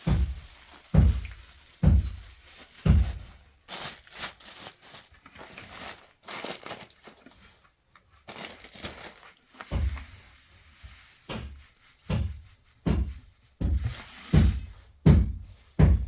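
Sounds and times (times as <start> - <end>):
crinkling and rustling: 0.0 - 16.0.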